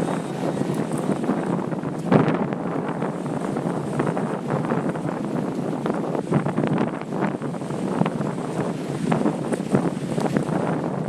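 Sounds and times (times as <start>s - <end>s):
wind gusting over microphone: 0.0s - 11.0s.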